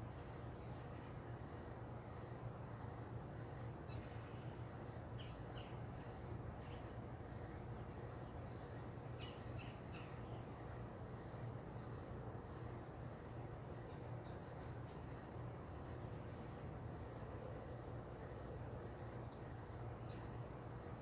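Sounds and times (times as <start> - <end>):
insects pulsing: 0.0 - 21.0
steady low hum: 0.0 - 21.0.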